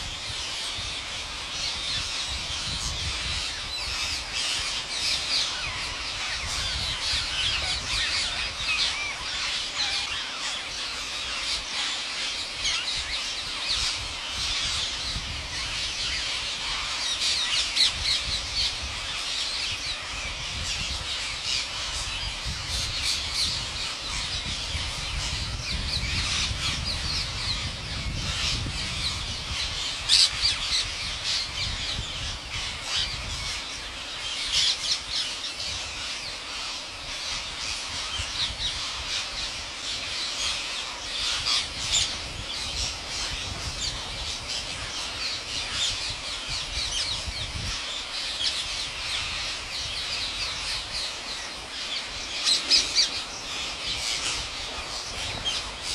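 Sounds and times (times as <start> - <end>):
parakeets squawking and screeching: 0.0 - 55.9.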